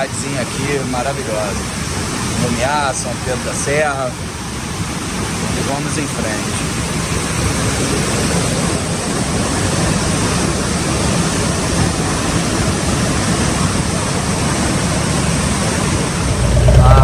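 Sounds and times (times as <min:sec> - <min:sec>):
waterfall and river rushing: 0:00.0 - 0:16.7.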